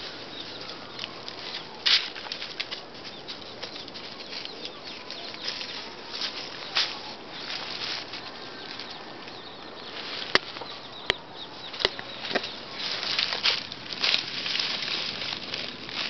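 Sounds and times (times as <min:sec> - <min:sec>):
dry leaves and twigs crackling: 0:00.0 - 0:16.0.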